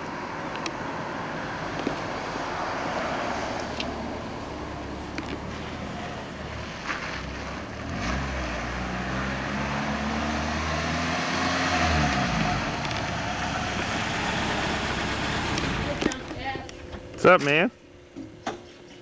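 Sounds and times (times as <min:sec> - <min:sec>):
car engine pulling away: 0:00.0 - 0:16.6
wind and road noise: 0:00.0 - 0:18.6.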